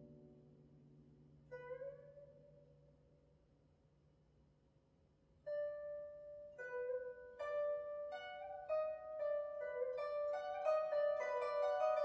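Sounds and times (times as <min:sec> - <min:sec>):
guzheng plucked notes: 0:00.0 - 0:03.1, 0:05.4 - 0:12.0.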